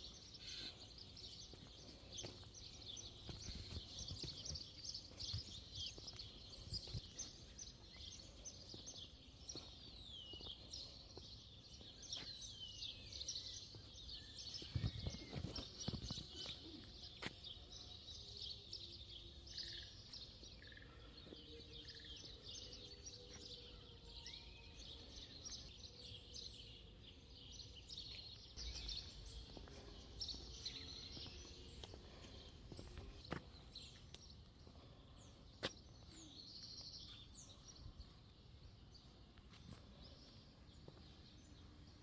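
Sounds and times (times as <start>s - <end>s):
songbirds singing and chirping: 0.0s - 42.0s.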